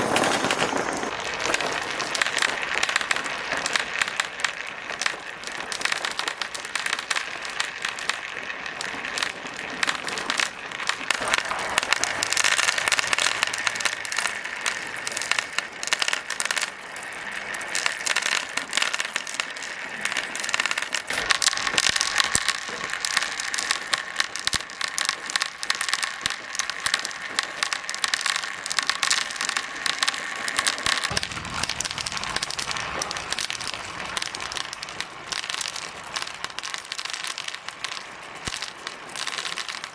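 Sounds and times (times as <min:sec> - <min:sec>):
marbles clattering down plastic tracks: 0:00.0 - 0:39.9.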